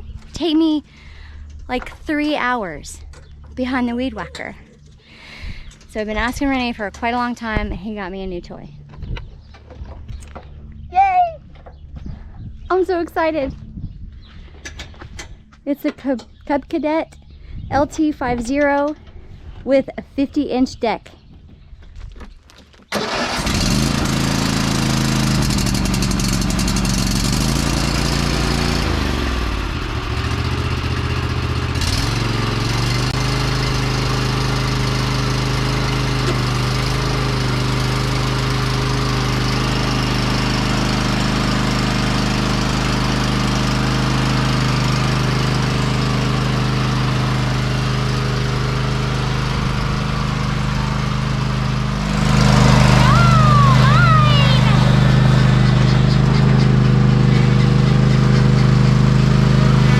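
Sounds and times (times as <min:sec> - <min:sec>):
riding lawn mower engine: 0:00.0 - 0:12.0, 0:22.4 - 0:59.9.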